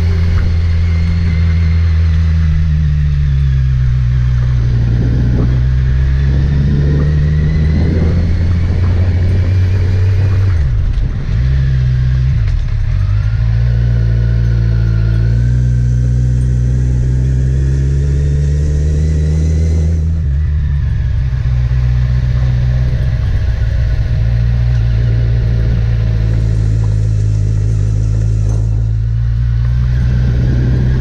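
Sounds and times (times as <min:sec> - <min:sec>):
car engine while driving: 0:00.0 - 0:31.0
road noise: 0:00.0 - 0:31.0.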